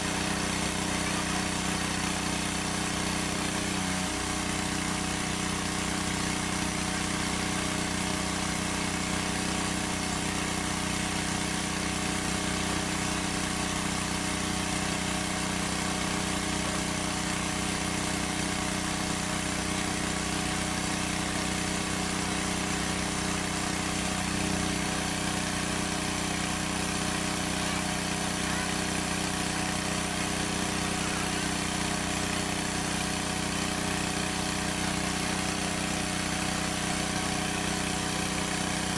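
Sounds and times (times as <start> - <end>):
small engine humming: 0.0 - 38.9.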